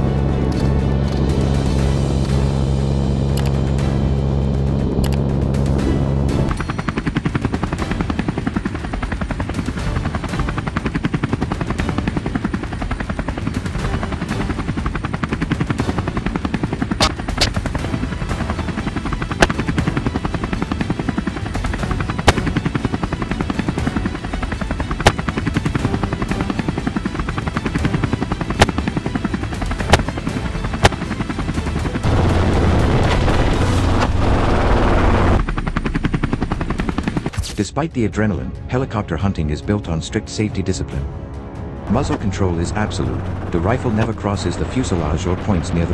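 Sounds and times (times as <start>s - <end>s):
music: 0.0s - 45.9s
helicopter blade chop: 1.2s - 37.6s, 41.9s - 45.9s.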